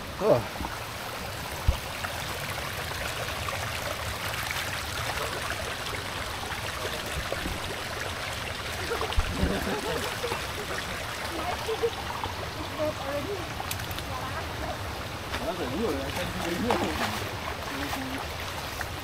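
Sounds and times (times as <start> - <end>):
stream water running over rocks: 0.0 - 19.0.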